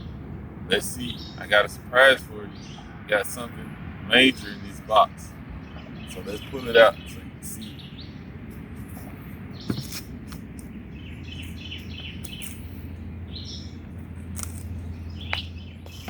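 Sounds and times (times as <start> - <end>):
songbirds chirping: 0.0 - 16.0
steady low hum: 0.0 - 16.0.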